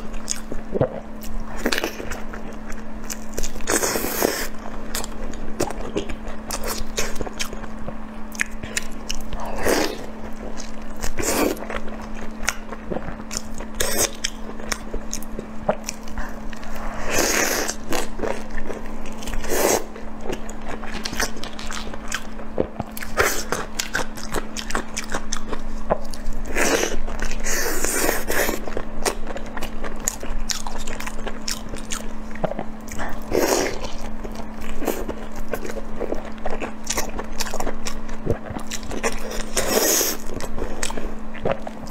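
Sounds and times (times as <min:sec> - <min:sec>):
person chewing: 0:00.0 - 0:41.9
steady low hum: 0:00.0 - 0:41.9.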